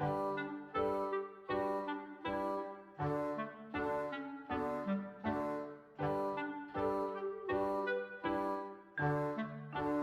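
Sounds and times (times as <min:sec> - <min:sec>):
instrumental music with chords: 0:00.0 - 0:10.0.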